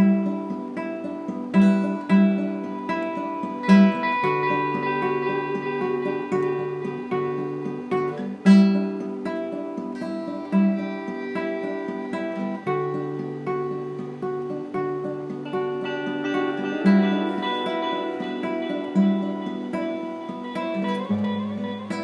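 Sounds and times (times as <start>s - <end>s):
acoustic guitar picking and strumming: 0.0s - 22.0s.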